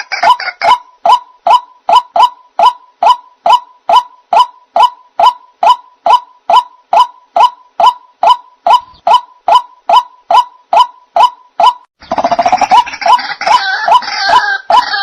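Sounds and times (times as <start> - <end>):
waterhen short sharp calls: 0.0 - 15.0.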